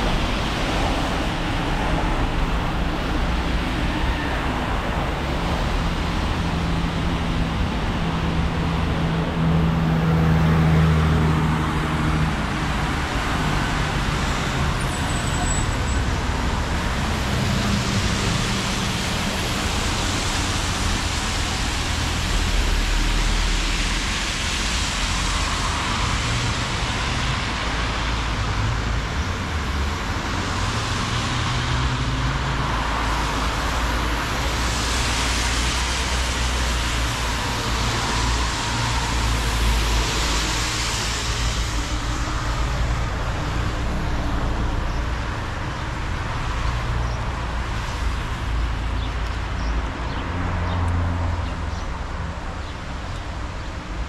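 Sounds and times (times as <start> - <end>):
low rumble of engines: 0.0 - 54.0
tyres hissing on wet road: 0.0 - 54.0.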